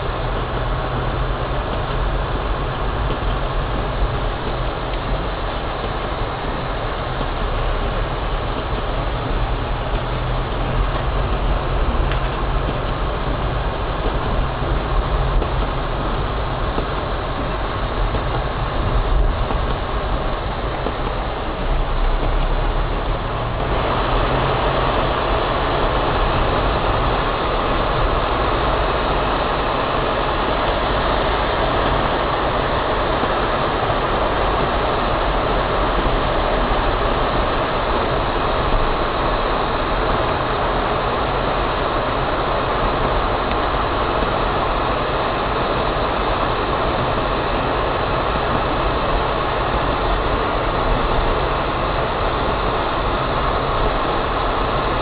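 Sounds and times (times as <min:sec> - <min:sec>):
car engine and road noise: 0:00.0 - 0:55.0
tyres on wet slushy road: 0:00.0 - 0:55.0.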